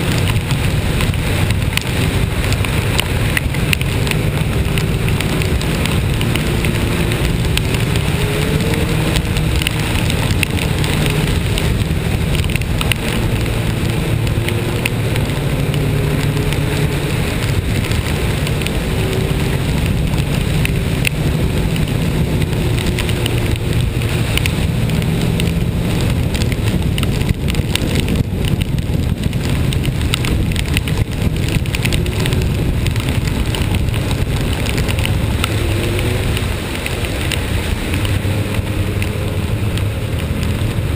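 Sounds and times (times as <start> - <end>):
rain hissing on wet road: 0.0 - 40.9
vehicle engine running: 0.0 - 40.9.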